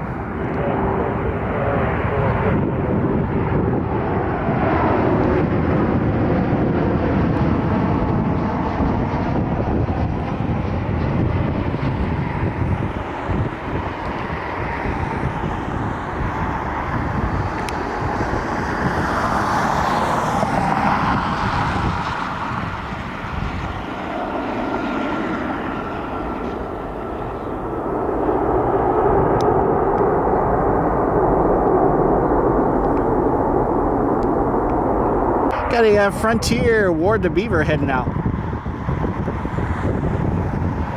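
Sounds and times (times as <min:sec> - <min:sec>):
jet airliner engines rushing: 0:00.0 - 0:40.9.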